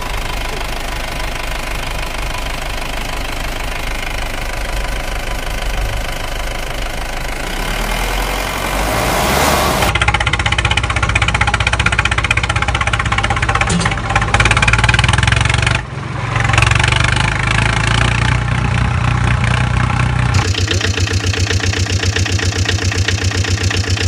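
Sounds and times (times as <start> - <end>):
motor vehicle engine running: 0.0 - 24.0
pulsing engine sound: 0.0 - 24.0.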